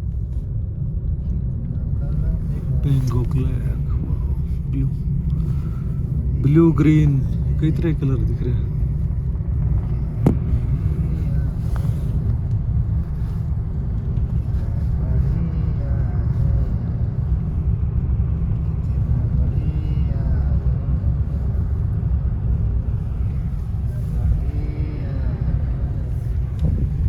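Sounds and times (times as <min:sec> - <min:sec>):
vehicle driving rumble: 0:00.0 - 0:27.0
faint voices talking: 0:01.2 - 0:27.0.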